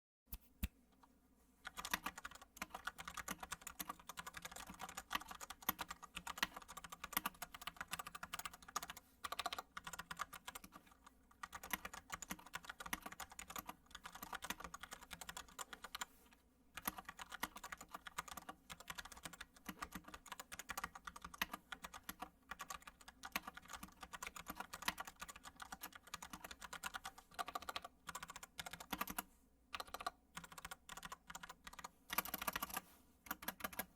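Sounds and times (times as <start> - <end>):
mechanical keyboard typing: 1.6 - 16.1, 16.8 - 33.9.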